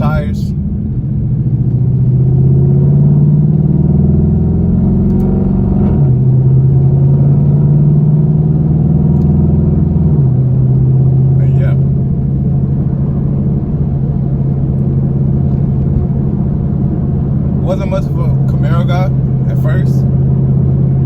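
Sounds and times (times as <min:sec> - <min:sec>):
car engine under load: 0:00.0 - 0:21.0.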